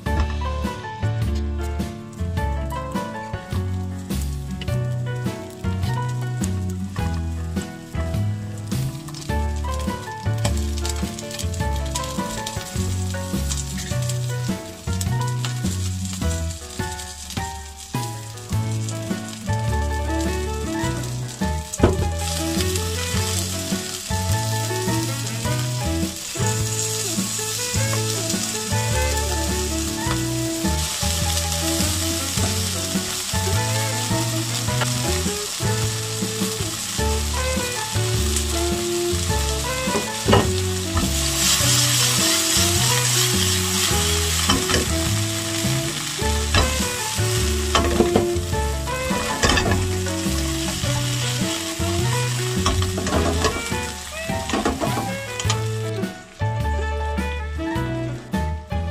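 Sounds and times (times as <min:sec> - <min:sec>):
oysters sizzling in a frying pan: 0:00.0 - 0:58.8.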